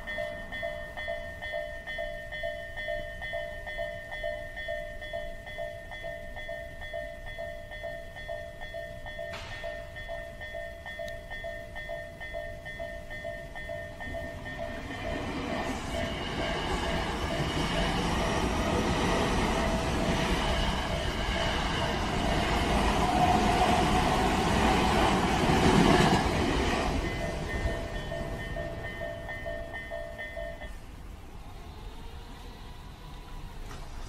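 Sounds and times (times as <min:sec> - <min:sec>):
crossing warning bell ringing: 0:00.0 - 0:31.0
electric train passing: 0:00.0 - 0:34.0.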